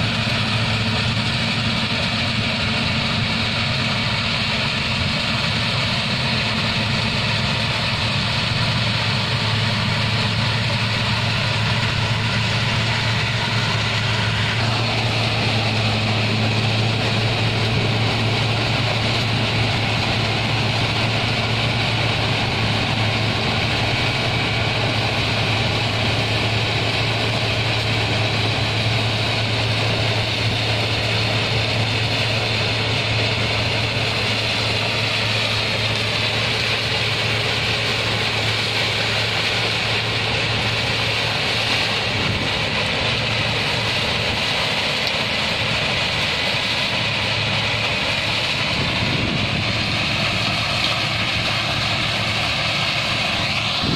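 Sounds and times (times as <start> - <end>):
low diesel drone: 0.0 - 53.9
mechanical rush of machinery: 0.0 - 53.9.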